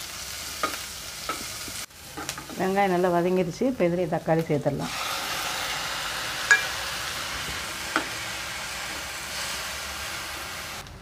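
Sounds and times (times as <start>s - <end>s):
vegetables sizzling in hot oil: 0.0s - 10.9s.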